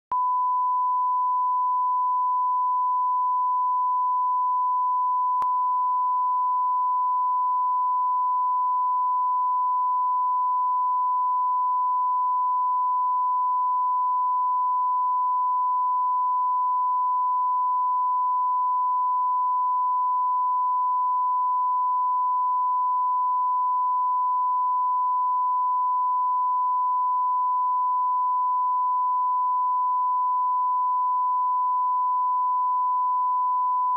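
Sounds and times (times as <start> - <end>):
steady sine tone: 0.1 - 33.9.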